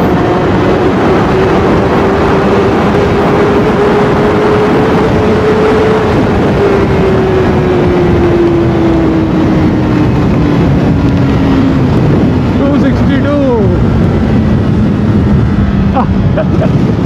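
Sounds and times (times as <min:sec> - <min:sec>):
motorcycle engine at high speed: 0:00.0 - 0:17.0
wind rush: 0:00.0 - 0:17.0.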